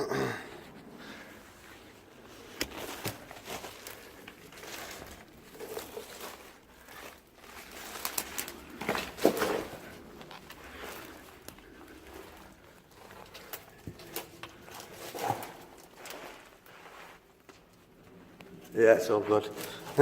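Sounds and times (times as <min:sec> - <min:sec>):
rustling and clicks: 0:00.6 - 0:18.8
footsteps crunching on debris: 0:00.7 - 0:17.8, 0:19.3 - 0:20.0.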